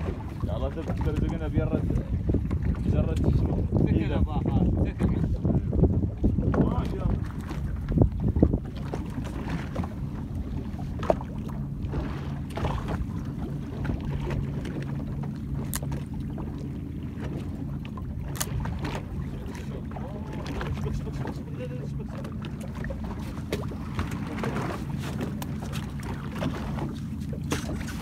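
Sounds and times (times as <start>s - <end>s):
water moving around boat: 0.0s - 28.0s
wind on microphone: 0.0s - 28.0s.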